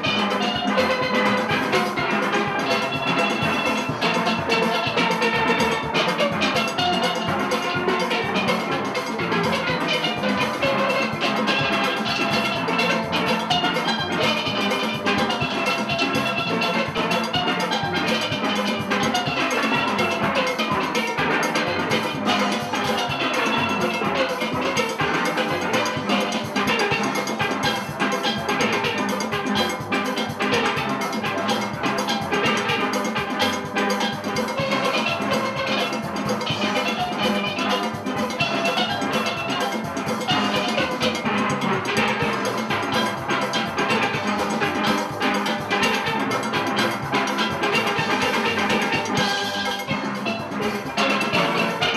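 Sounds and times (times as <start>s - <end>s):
drum kit and percussion: 0.0s - 51.9s
steel band playing calypso: 0.0s - 51.9s.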